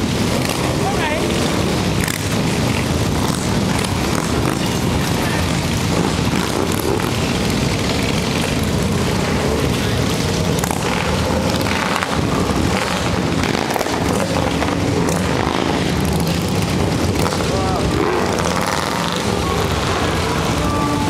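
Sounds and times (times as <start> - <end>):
motorcycles idling and pulling away: 0.0 - 21.0.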